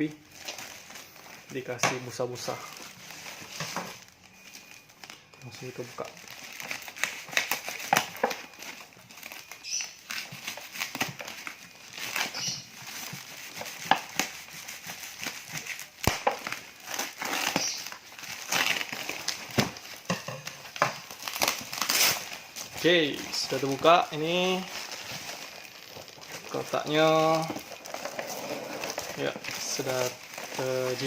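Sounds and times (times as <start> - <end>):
plastic packaging crinkling: 0.2 - 31.0.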